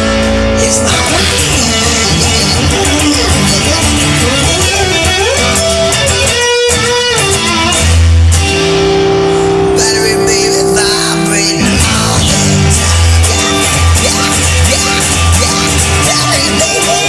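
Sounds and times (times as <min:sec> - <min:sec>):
bass line: 0:00.0 - 0:17.0
electric guitar rock music: 0:00.0 - 0:17.0.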